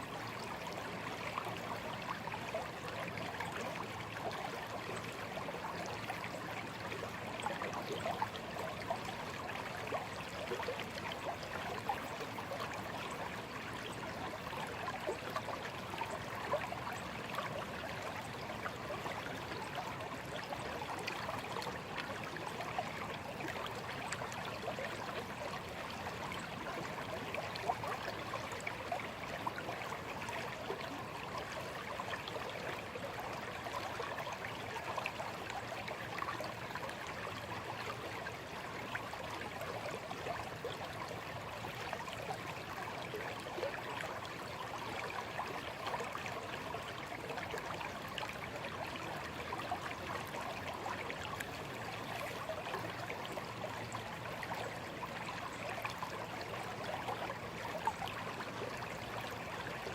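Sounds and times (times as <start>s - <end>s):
stream bubbling over stones: 0.0s - 59.9s.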